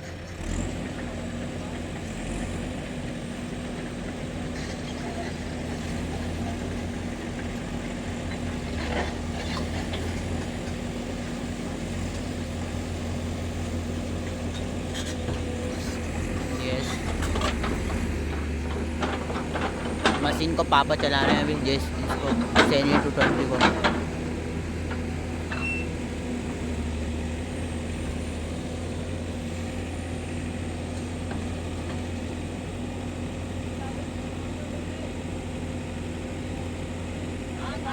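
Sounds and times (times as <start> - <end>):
heavy machine diesel engines: 0.0 - 37.9.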